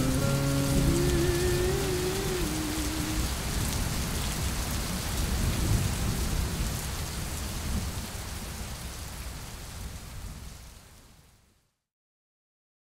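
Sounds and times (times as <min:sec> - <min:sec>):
rain falling: 0:00.0 - 0:11.5.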